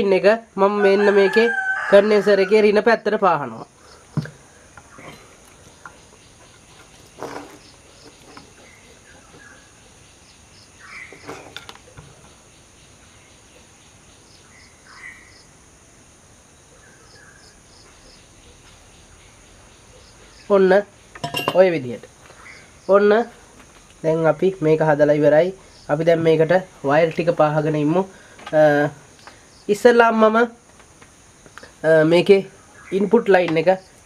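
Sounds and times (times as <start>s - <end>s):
birds and insects chirping: 0.0s - 34.0s.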